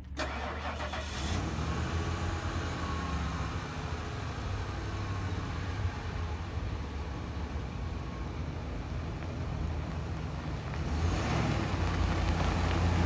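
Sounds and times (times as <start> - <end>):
van engine cranking: 0.0 - 13.0
van engine idling: 0.0 - 13.0.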